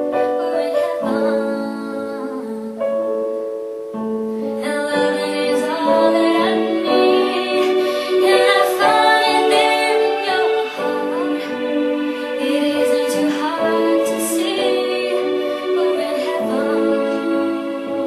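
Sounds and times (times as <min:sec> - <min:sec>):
piano accompaniment: 0:00.0 - 0:18.0
woman singing a slow ballad: 0:00.1 - 0:03.1, 0:04.4 - 0:18.0.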